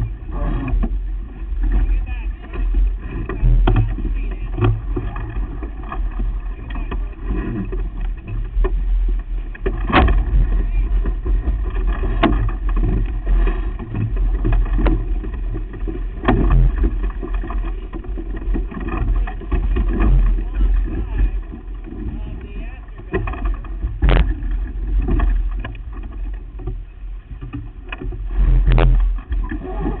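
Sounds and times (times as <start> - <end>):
low rumble of wind and water: 0.0 - 30.0.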